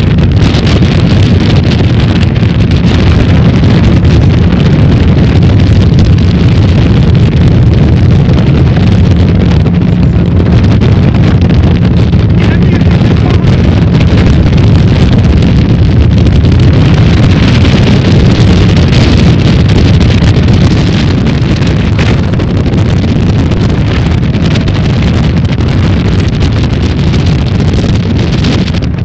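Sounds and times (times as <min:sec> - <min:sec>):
speedboat running: 0:00.0 - 0:29.0
wind buffeting microphone: 0:00.0 - 0:29.0.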